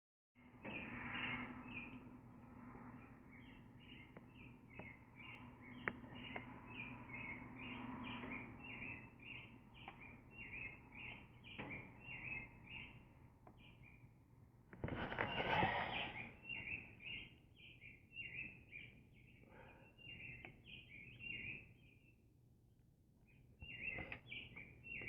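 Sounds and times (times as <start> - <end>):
bird chirping: 0.6 - 14.2, 14.8 - 22.3, 23.2 - 25.0.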